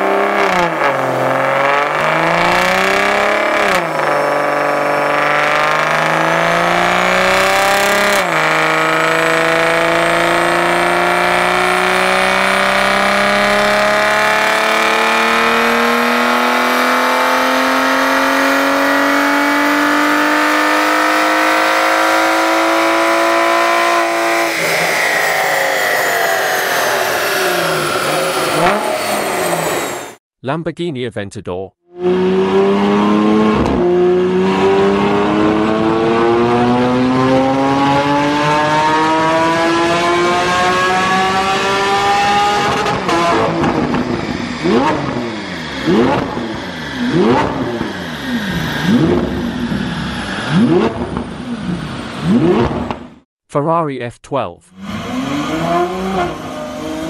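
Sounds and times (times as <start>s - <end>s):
car engine revving on a dyno: 0.0s - 30.2s, 31.9s - 53.2s, 54.8s - 57.0s.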